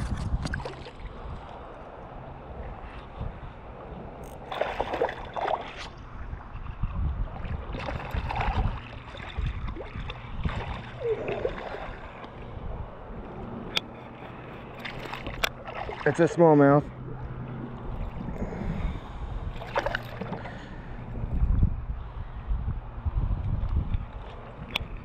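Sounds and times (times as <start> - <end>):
water splashing and gurgling: 0.0 - 21.6
steady low rumble: 0.0 - 25.0.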